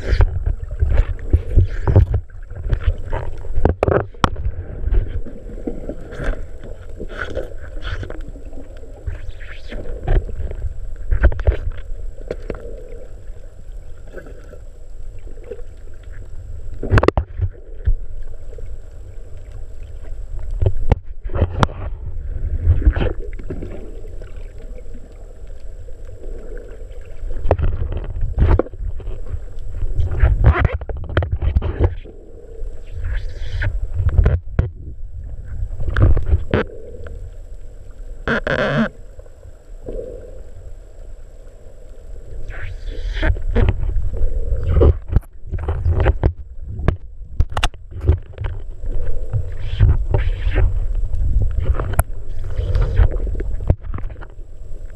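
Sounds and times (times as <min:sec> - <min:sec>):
underwater rumble of moving water: 0:00.0 - 0:54.9.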